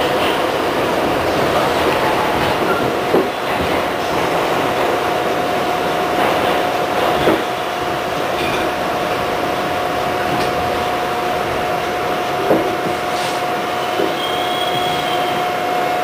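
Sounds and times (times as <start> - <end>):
subway car rumble: 0.0 - 16.0.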